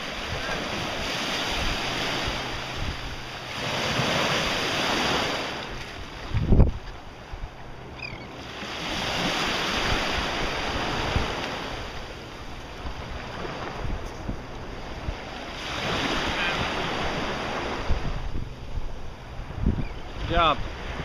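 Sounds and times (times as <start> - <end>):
wind buffeting microphone: 0.0 - 8.2, 9.0 - 21.0
small waves washing in surf: 0.0 - 21.0.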